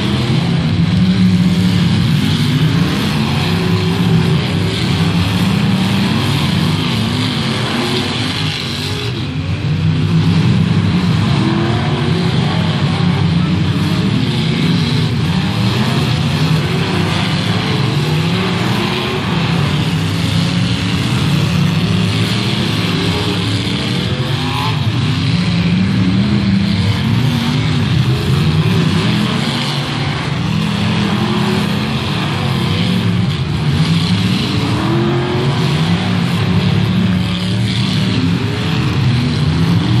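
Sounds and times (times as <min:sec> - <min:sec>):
car engines revving: 0:00.0 - 0:40.0.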